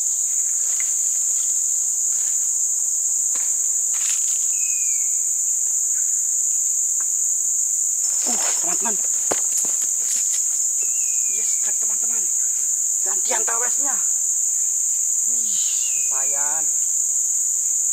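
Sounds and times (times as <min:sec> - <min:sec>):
high-pitched insect drone: 0:00.0 - 0:17.9.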